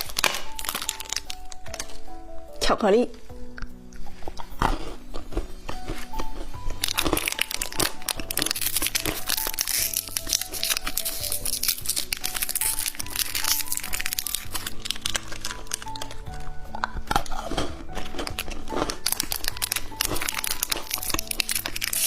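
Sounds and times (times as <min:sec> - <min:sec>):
plastic packaging crinkling: 0:00.0 - 0:02.3, 0:03.5 - 0:22.0
light background music: 0:00.0 - 0:22.0.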